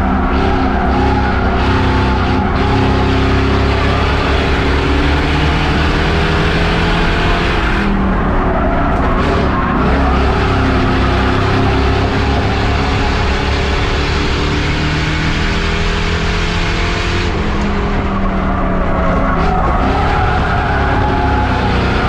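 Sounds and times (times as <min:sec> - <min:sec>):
race car engine running hard: 0:00.0 - 0:22.0.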